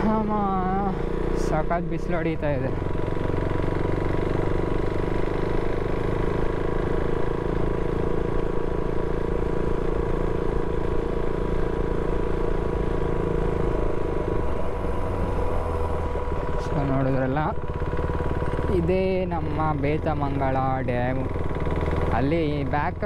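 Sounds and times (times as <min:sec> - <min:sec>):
motorcycle engine running: 0:00.0 - 0:23.0
road and wind rush: 0:00.0 - 0:23.0.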